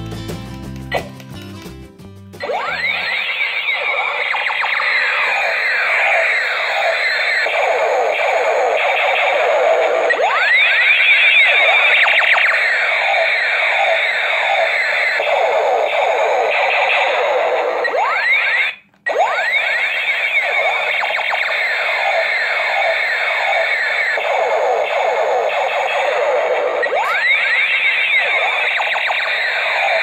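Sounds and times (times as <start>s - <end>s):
rising electronic sweeps: 2.4s - 30.0s
toy gun electronic falling tones: 2.4s - 30.0s.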